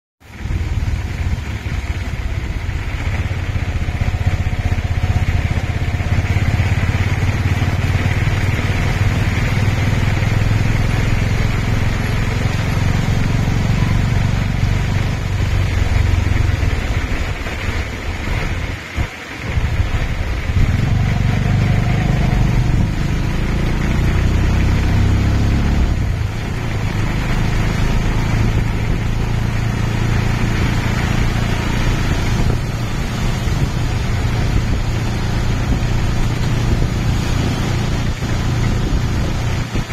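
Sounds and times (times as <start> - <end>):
motorcycle engine running: 0.2 - 39.9
tyre noise on wet road: 0.2 - 39.9.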